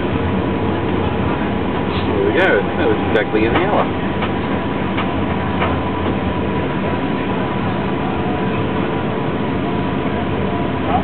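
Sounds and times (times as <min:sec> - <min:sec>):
airplane cabin rumble and hum: 0:00.0 - 0:11.0.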